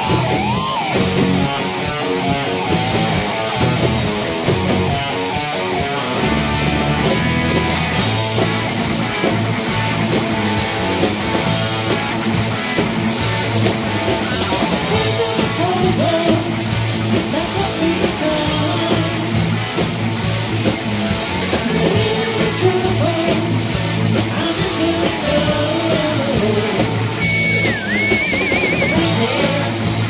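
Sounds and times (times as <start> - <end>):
live rock band playing: 0.0 - 30.0
wavering melodic guitar line: 0.0 - 30.0.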